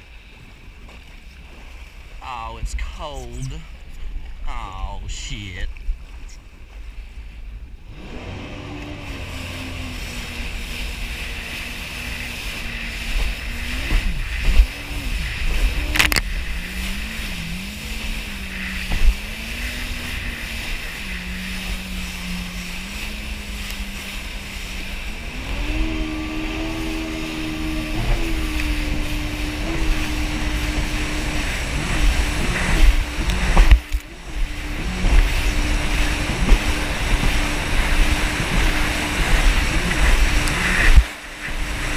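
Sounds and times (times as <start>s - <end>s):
jet ski engine running: 0.0s - 41.9s
wind and water rushing: 0.0s - 41.9s.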